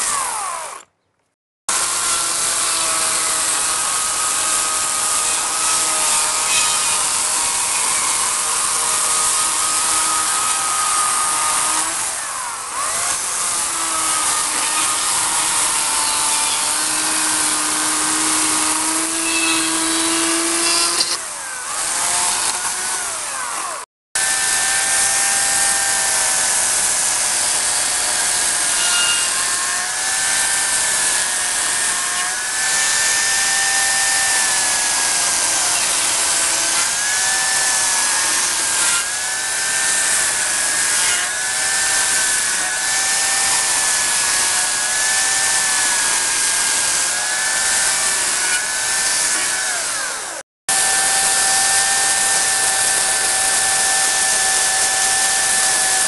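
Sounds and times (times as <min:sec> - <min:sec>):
electric chainsaw cutting wood: 0:00.0 - 0:01.0, 0:01.7 - 0:56.0.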